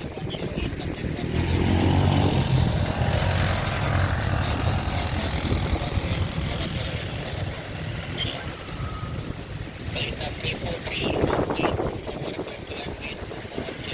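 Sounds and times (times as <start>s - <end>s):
jet engines passing by: 0.0s - 13.9s.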